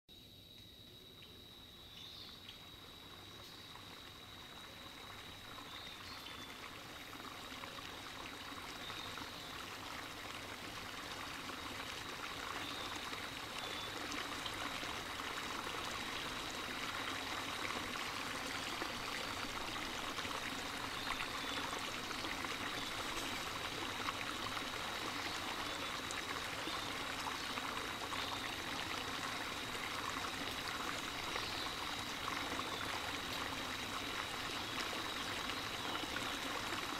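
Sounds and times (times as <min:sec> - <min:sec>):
running water trickling: 0:02.0 - 0:36.9.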